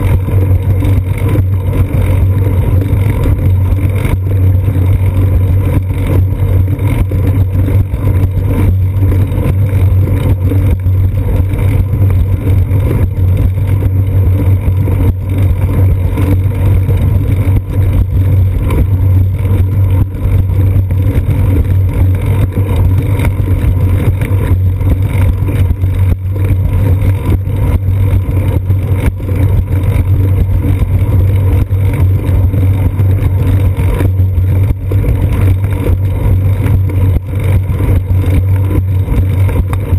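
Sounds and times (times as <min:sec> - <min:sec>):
bicycle rolling rumble: 0:00.0 - 0:39.9.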